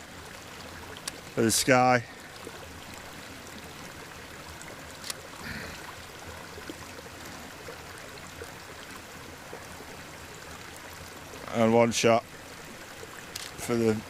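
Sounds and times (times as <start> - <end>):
stream running over rocks: 0.0 - 14.0.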